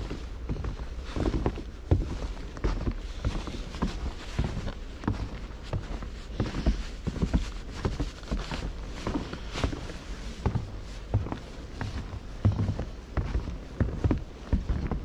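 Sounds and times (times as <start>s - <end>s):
footsteps crunching in snow: 0.0s - 15.0s
steady low rumble: 0.0s - 15.0s.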